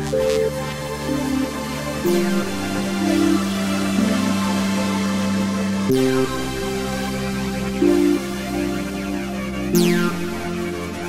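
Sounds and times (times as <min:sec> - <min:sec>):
low synth note: 0:00.0 - 0:11.0.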